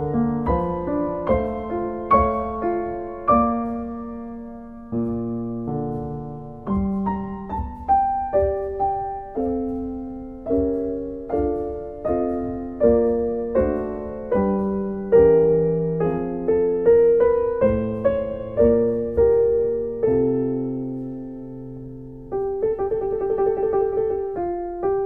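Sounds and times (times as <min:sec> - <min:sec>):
slow gentle piano piece: 0:00.0 - 0:25.0.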